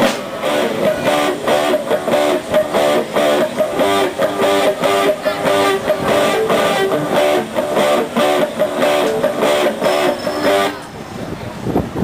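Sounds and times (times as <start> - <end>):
punk rock band playing live: 0.0 - 11.0.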